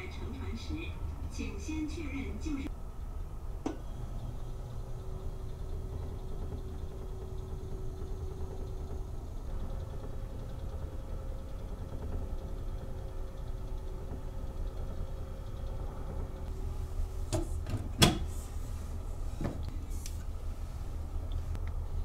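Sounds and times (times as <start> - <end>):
ship engines humming: 0.0 - 22.0.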